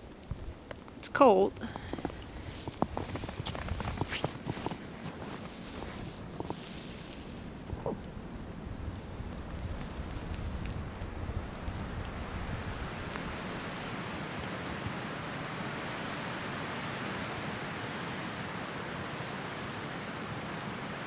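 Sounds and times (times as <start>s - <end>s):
wind rumble on microphone: 0.0s - 0.8s, 1.7s - 19.3s
snowstorm hiss: 0.0s - 21.0s.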